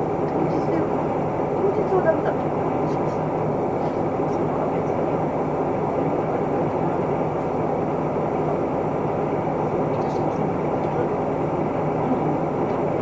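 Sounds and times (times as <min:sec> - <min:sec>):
bus diesel engine: 0:00.0 - 0:13.0.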